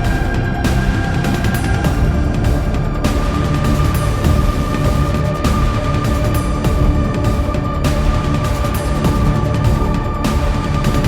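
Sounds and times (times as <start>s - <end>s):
dark electronic music: 0.0s - 11.0s
heavy bass: 0.0s - 11.0s.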